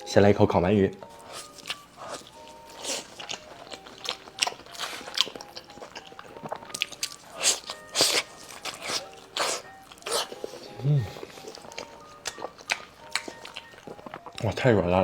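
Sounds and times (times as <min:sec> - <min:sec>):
chewing clicks and smacks: 0:01.3 - 0:14.5.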